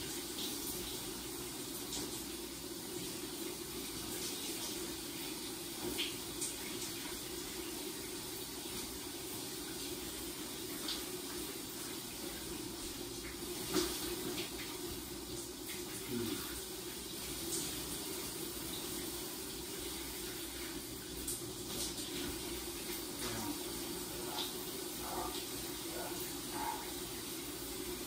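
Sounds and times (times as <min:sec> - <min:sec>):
shower water rushing: 0:00.0 - 0:28.0.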